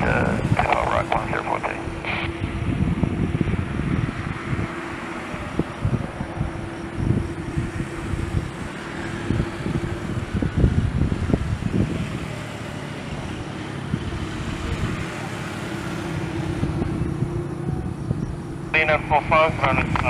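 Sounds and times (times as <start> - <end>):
jet engines idling hum: 0.0 - 20.0
wind buffeting microphone: 0.0 - 20.0.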